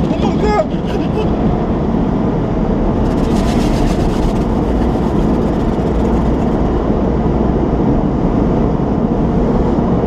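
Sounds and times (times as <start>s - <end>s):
truck cabin rumble: 0.0s - 10.0s.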